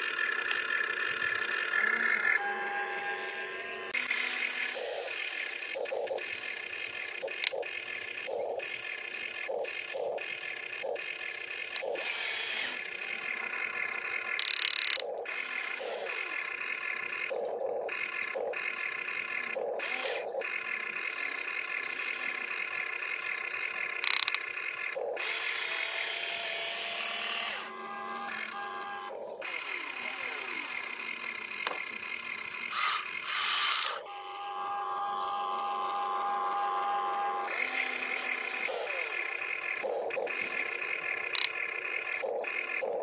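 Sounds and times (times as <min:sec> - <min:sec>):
electric gear motors whining: 0:00.0 - 0:43.0.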